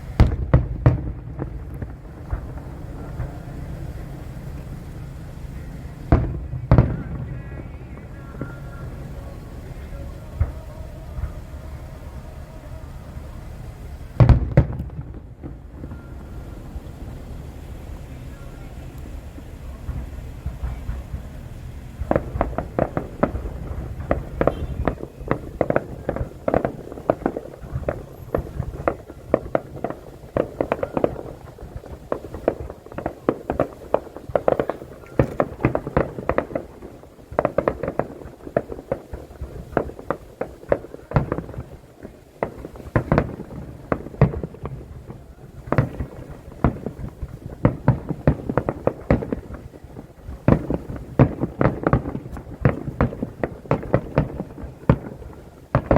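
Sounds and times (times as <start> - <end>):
fireworks exploding: 0.0 - 55.9.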